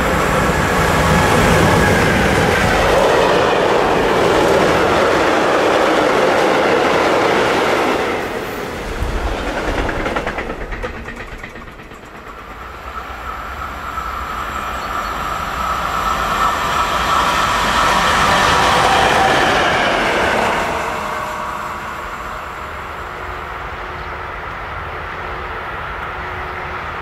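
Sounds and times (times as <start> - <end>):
freight train wheels clattering: 0.0 - 22.2
diesel locomotive approaching: 0.0 - 27.0.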